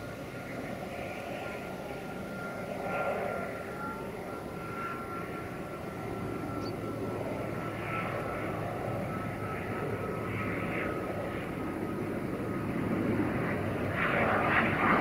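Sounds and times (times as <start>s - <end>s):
propeller drone: 0.0s - 15.0s
turboprop engine whine: 0.0s - 15.0s.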